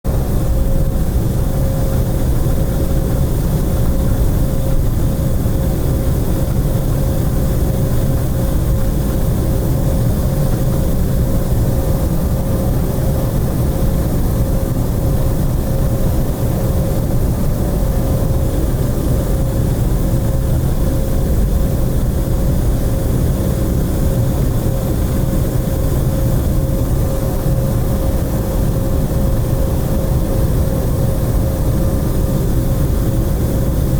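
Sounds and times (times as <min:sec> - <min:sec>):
airliner engines rumbling: 0:00.1 - 0:33.9.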